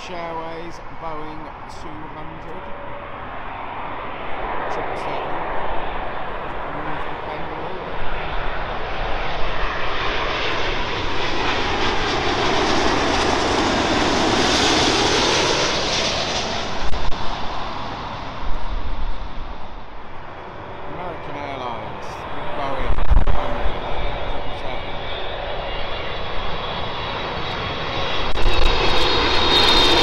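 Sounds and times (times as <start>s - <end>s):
airliner jet engines overhead: 0.0s - 30.0s.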